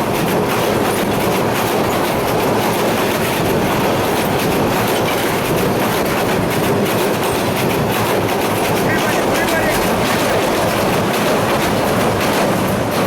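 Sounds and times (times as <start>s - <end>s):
train wheels on track: 0.0s - 13.0s
clicking over rail joints: 0.2s - 13.0s.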